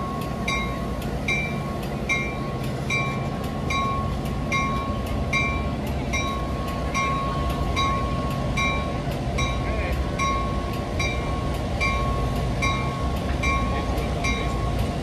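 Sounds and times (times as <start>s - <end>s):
railroad bell ringing: 0.0s - 15.0s
train rumble: 0.0s - 15.0s.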